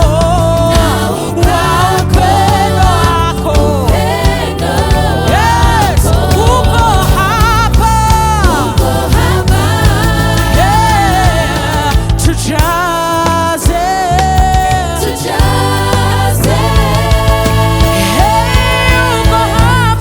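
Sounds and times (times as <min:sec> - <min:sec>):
band with steady bass: 0:00.0 - 0:20.0
gospel singing: 0:00.0 - 0:20.0.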